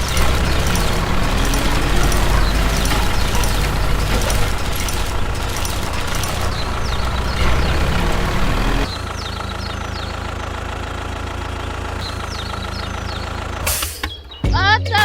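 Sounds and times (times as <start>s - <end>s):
birds chirping: 0.0s - 15.0s
engine running steadily: 0.0s - 15.0s.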